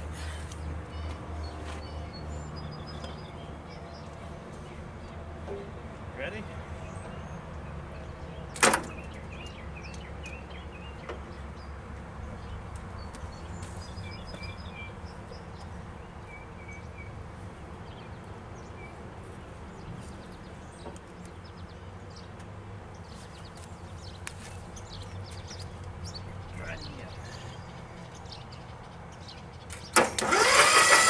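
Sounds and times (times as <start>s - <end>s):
small birds chirping: 0.4s - 5.2s, 6.2s - 30.0s.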